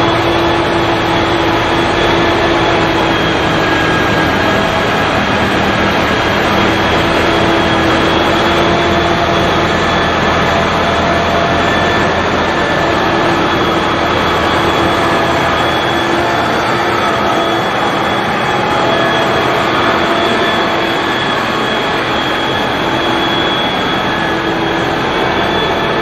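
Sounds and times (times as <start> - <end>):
faint whining tones: 0.0 - 26.0
snow blower rushing noise: 0.0 - 26.0.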